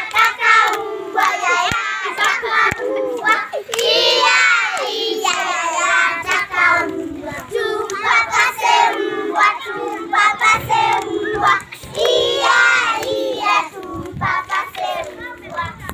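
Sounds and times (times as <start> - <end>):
children singing in unison: 0.0 - 15.8
hands clapping: 0.0 - 15.9.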